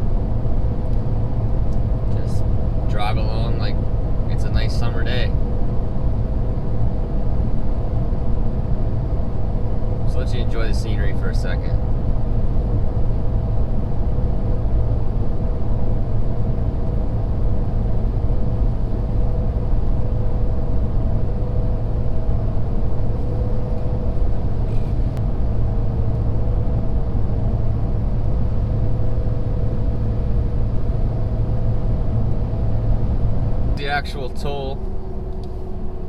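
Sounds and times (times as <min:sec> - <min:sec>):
faint steady hum: 0:00.0 - 0:36.0
pickup engine and road rumble: 0:00.0 - 0:36.0.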